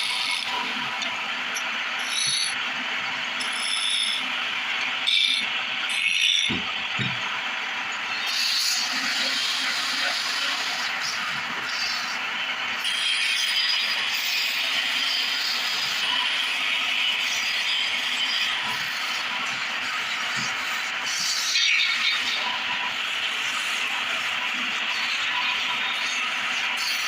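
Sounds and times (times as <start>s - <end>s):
wood lathe turning tool scraping: 0.0s - 6.6s, 7.8s - 27.0s.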